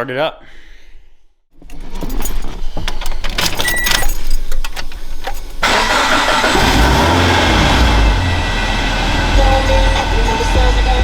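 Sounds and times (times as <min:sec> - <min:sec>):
car engine starting and idling: 0:01.7 - 0:11.0.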